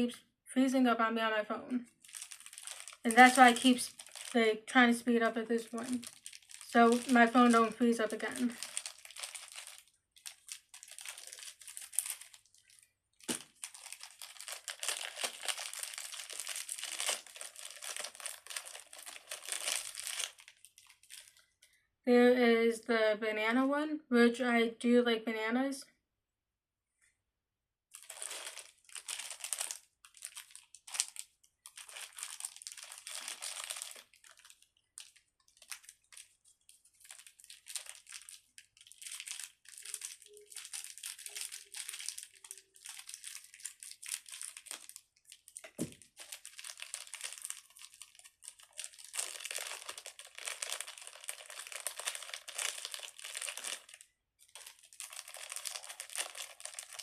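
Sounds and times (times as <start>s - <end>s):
plastic packaging crinkling: 1.9s - 4.5s, 5.5s - 21.6s, 27.9s - 57.0s.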